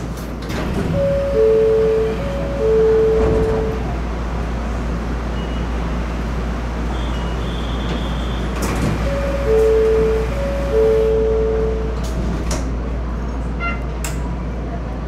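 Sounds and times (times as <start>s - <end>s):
monorail car hum: 0.0s - 15.0s.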